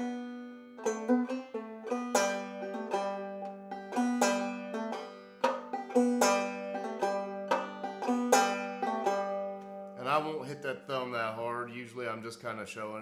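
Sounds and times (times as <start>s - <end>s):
banjo picking: 0.0s - 12.2s.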